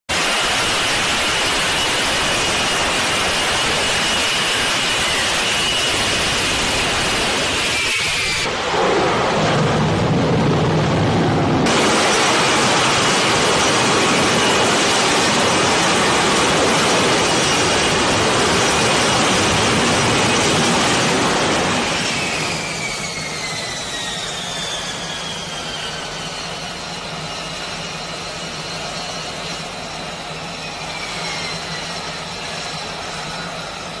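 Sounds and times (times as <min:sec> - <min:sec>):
jet engine roaring: 0:00.1 - 0:34.0.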